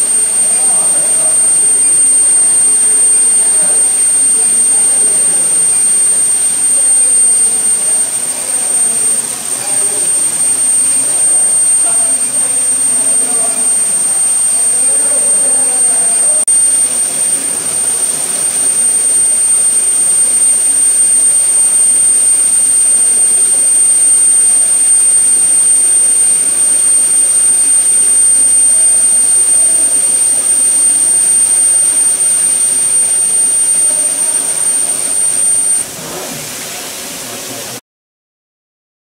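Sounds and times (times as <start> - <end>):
high-pitched induction heater whine: 0.0 - 37.8
water spray hissing: 0.0 - 37.8.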